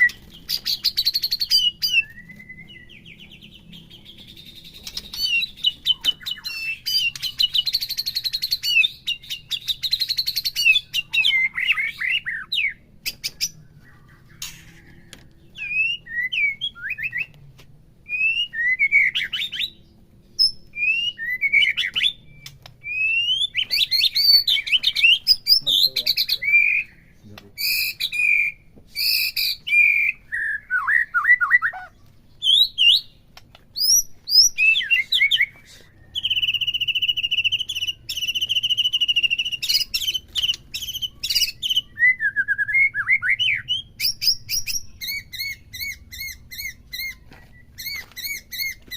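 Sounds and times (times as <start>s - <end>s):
bird singing whistled phrases: 0.0s - 13.4s, 15.6s - 17.3s, 18.0s - 19.8s, 20.4s - 33.2s, 33.8s - 48.8s.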